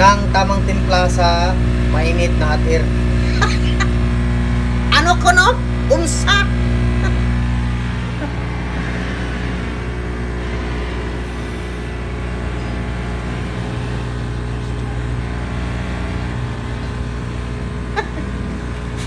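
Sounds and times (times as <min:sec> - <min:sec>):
motor hum with whirring hiss: 0:00.0 - 0:19.0.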